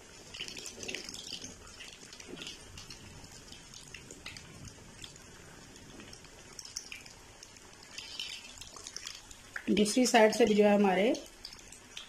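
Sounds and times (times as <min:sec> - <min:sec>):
cutlets sizzling in hot oil: 0:00.0 - 0:12.0.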